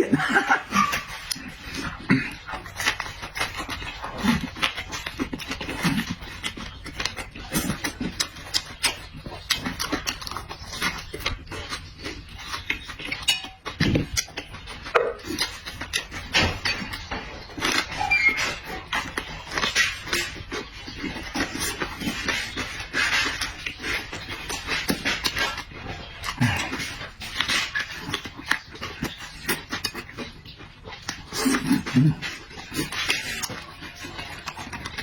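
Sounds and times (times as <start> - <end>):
wet chewing and lip-smacking: 0.0 - 35.0.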